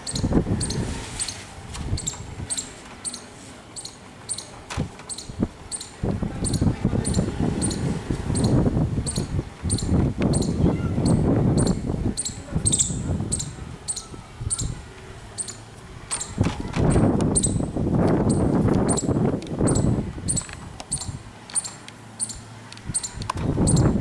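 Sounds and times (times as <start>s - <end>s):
squirrel alarm clicks: 0.0s - 14.8s, 15.4s - 16.4s, 17.2s - 17.6s, 18.3s - 24.0s.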